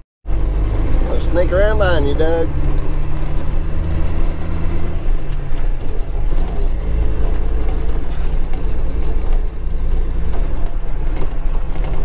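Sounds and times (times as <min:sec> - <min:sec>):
diesel truck engine running: 0:00.3 - 0:12.0.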